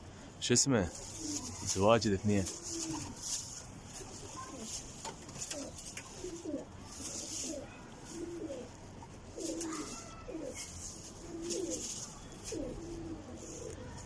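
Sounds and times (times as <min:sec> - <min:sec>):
high rustling: 0:00.8 - 0:14.0
pigeons cooing: 0:00.9 - 0:14.0.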